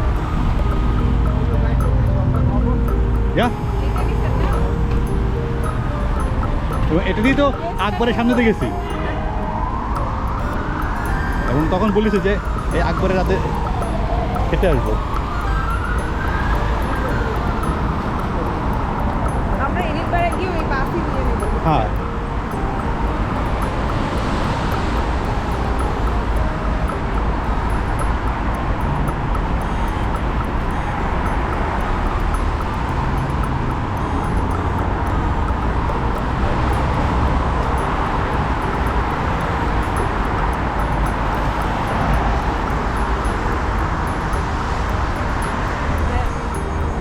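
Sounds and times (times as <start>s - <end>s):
road traffic noise: 0.0s - 47.0s
vehicles passing: 0.0s - 47.0s.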